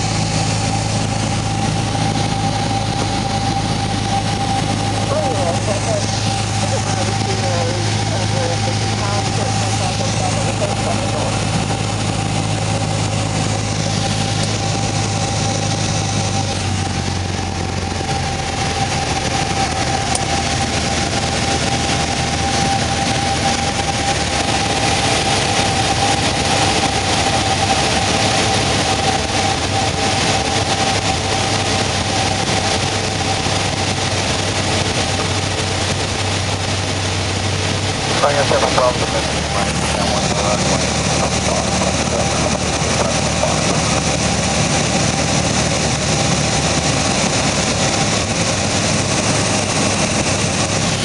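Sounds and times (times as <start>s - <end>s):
aircraft engine and propeller: 0.0s - 51.0s
rushing air: 0.0s - 51.0s.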